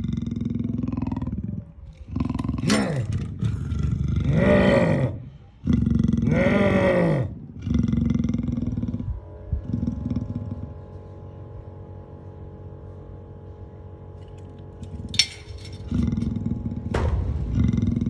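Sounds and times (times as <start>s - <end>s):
leopard growling: 0.0s - 11.3s, 14.8s - 18.0s.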